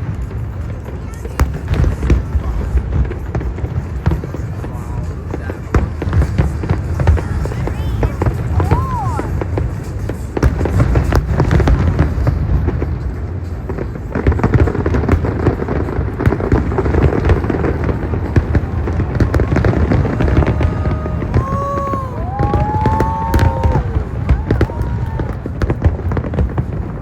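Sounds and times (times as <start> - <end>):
fireworks bangs and crackles: 0.0 - 27.0
whistling fireworks: 0.0 - 27.0.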